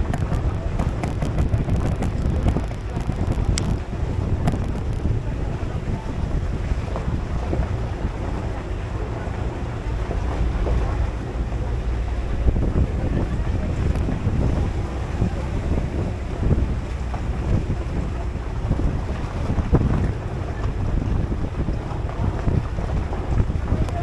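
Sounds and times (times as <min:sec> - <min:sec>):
low rumble of moving shuttle bus: 0:00.0 - 0:24.0
wind buffeting microphone: 0:00.0 - 0:24.0.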